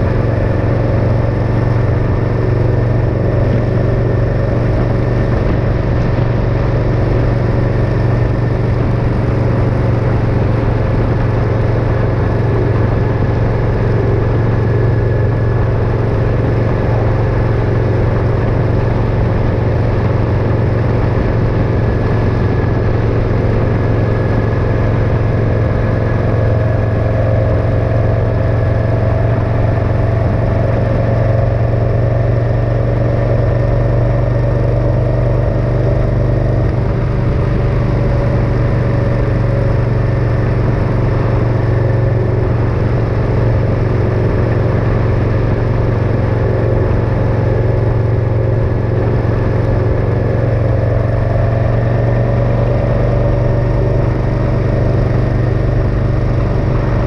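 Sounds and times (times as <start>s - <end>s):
motorcycle engine droning: 0.0s - 57.0s
road noise: 0.0s - 57.0s.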